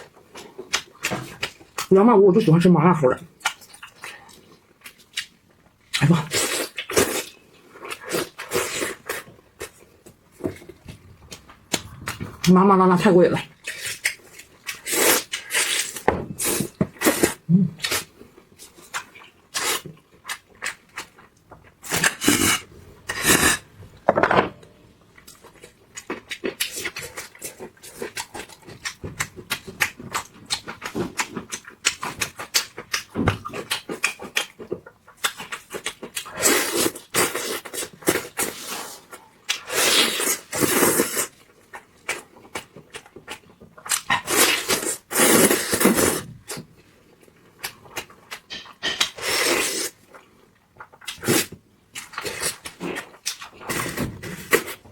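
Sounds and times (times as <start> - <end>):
person chewing and smacking: 0.0 - 1.9, 3.3 - 12.6, 13.3 - 23.3, 25.0 - 54.9.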